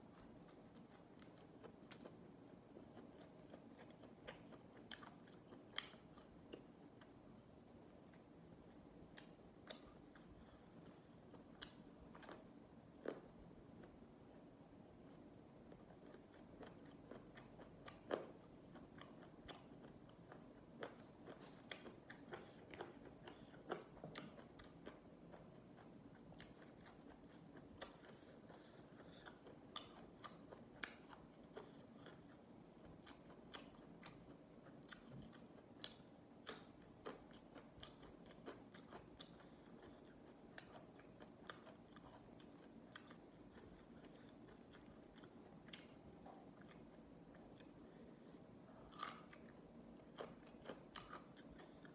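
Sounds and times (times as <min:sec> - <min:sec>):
chewing crisp raw vegetables: 0:00.0 - 0:07.3, 0:08.0 - 0:14.0, 0:15.1 - 0:51.9.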